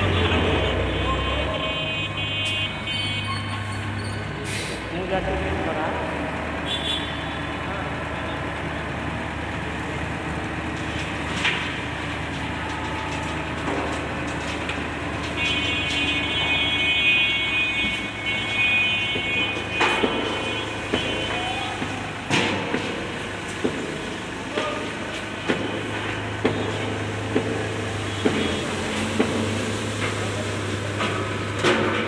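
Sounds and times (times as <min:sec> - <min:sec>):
truck engine running: 0:02.7 - 0:32.0.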